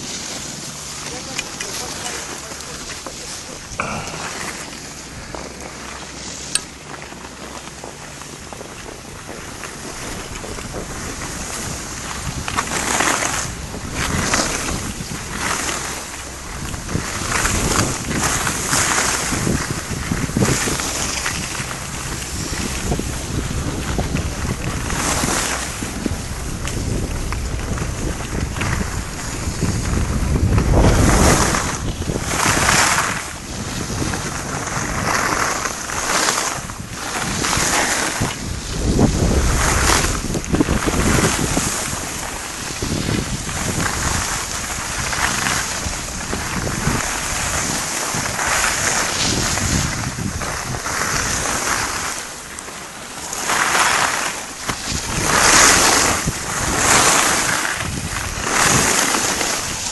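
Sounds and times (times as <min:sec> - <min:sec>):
skis scraping on hard snow: 0:00.0 - 0:59.9
wind buffeting microphone: 0:00.0 - 0:59.9.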